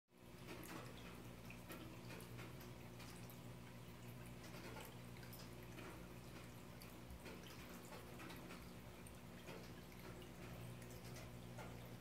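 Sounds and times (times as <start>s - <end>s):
water drips and bubble pops: 0.2s - 12.0s.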